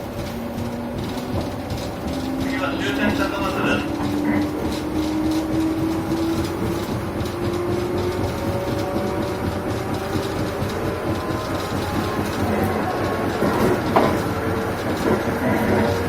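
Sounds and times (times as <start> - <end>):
electric train whine: 0.0 - 16.0
train wheels rumbling and rattling: 0.0 - 16.0.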